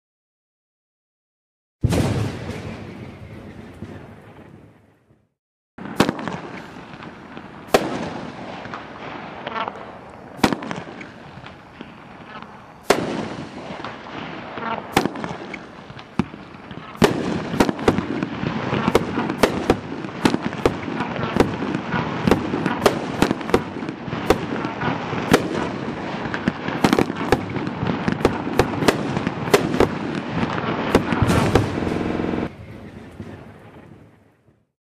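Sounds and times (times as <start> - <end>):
firework shots and bursts cracking: 1.8 - 4.7, 5.8 - 32.8
steady firework crackle: 5.8 - 34.1.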